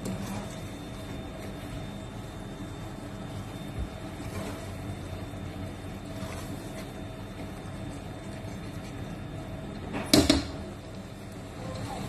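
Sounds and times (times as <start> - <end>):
spatula stirring in a wok: 0.0 - 10.0.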